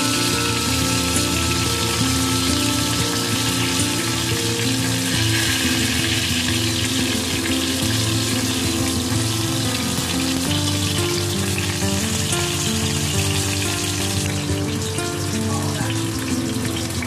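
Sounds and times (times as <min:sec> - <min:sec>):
background music: 0:00.0 - 0:17.0
chicken frying in hot oil: 0:00.0 - 0:17.0.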